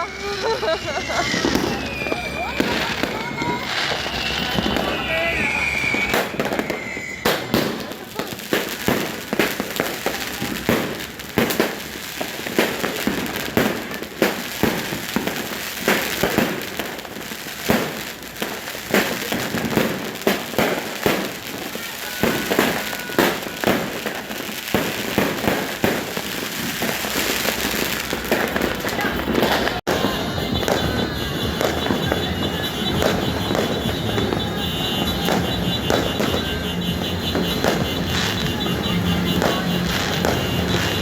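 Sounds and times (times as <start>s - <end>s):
fireworks and firecrackers bangs: 0.0s - 41.0s.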